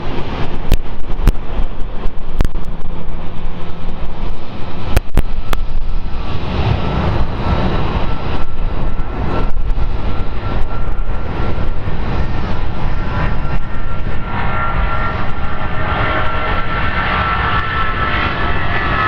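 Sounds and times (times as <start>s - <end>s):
jet engines rumbling: 0.0s - 19.0s
thin steady whine: 0.0s - 19.0s.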